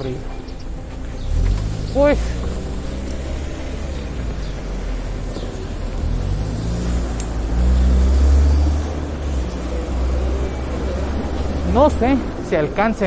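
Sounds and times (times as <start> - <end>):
street traffic: 0.0 - 13.0
truck engine rumbling: 0.0 - 13.0.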